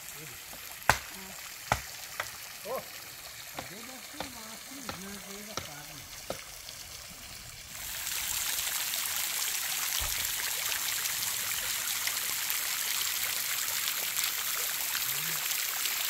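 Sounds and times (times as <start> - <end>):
water dripping down rock: 0.0 - 16.0.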